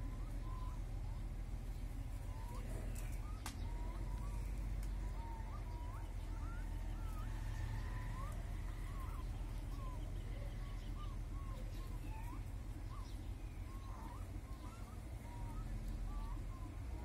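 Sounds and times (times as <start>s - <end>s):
whistled bird notes: 0.0s - 1.3s, 2.0s - 17.0s
low steady rumble: 0.0s - 17.0s.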